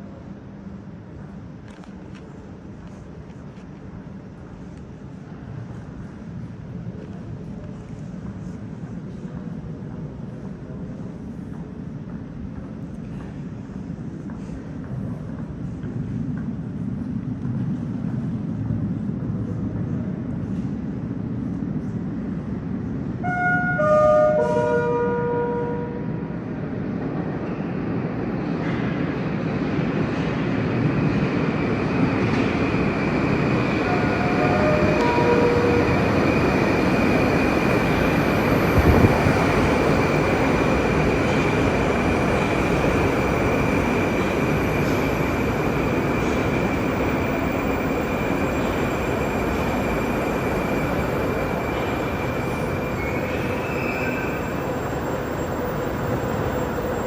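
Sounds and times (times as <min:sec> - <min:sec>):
train wheel and running noise: 0:00.0 - 0:57.0.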